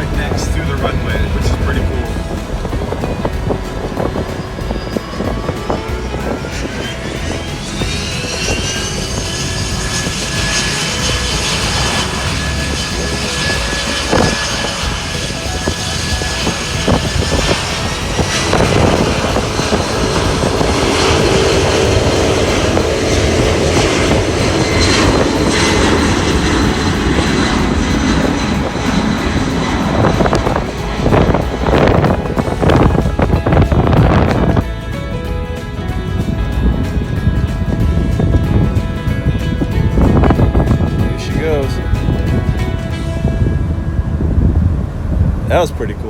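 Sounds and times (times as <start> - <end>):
airplane engines whining: 0.0 - 46.0.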